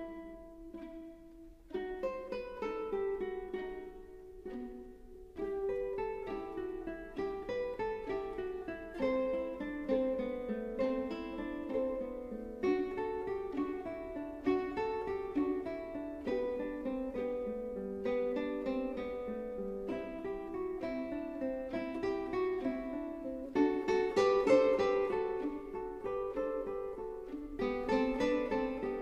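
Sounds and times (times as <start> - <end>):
plucked acoustic guitar: 0.0 - 29.0.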